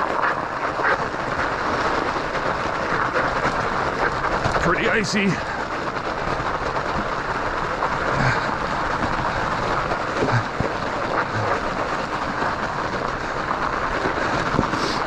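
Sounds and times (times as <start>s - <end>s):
studded tires rolling on ice: 0.0s - 15.0s.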